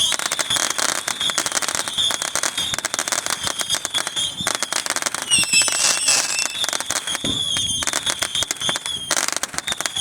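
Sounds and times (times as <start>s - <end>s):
fireworks crackling pops: 0.0s - 10.0s
high fireworks whistle: 0.0s - 10.0s
shrill whistles: 0.0s - 10.0s.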